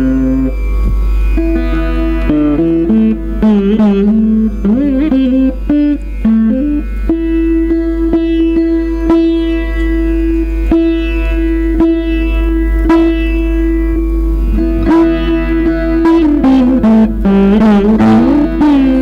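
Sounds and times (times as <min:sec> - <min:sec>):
plucked veena melody: 0:00.0 - 0:19.0.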